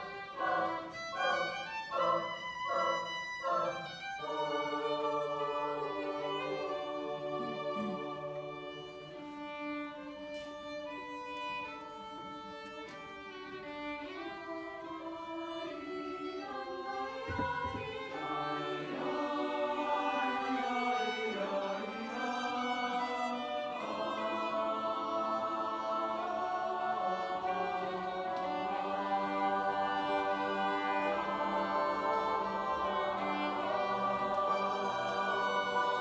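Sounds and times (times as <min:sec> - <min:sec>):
choir singing: 0:00.0 - 0:36.0
solo violin melody: 0:00.0 - 0:36.0.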